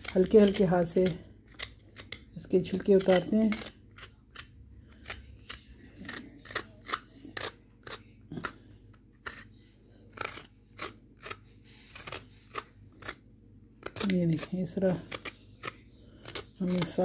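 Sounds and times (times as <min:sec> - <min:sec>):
knife scraping vegetable skin: 0:00.0 - 0:13.2, 0:13.8 - 0:17.0.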